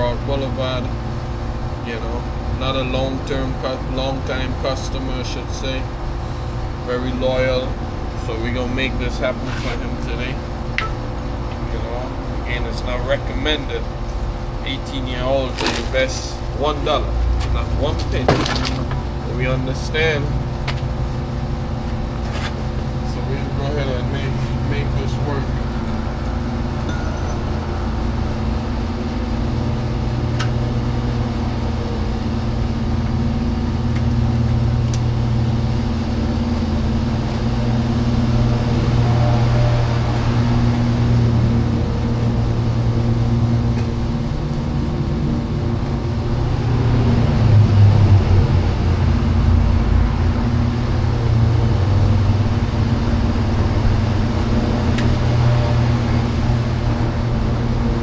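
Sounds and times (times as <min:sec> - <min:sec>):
low wavering mechanical drone: 0:00.0 - 0:58.0.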